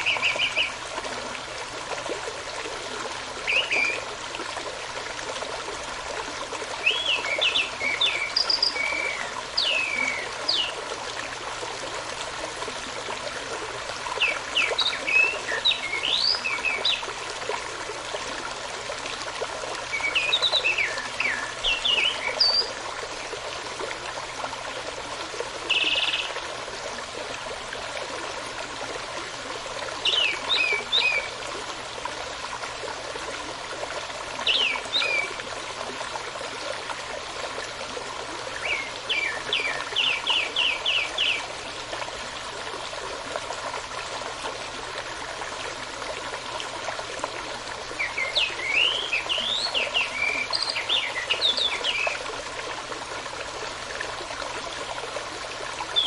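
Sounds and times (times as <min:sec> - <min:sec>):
running brook: 0:00.0 - 0:56.0.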